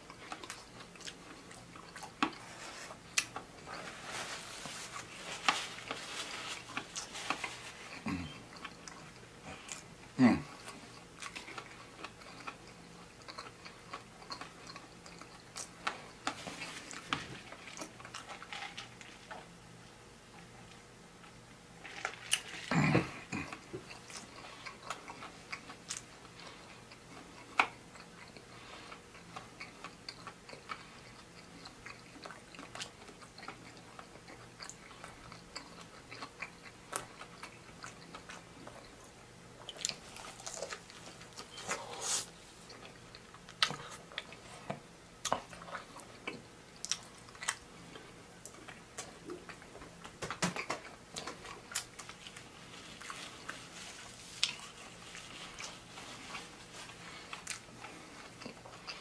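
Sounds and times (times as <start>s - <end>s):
chewing and biting food: 0.0s - 4.0s, 4.9s - 19.5s, 20.4s - 59.0s.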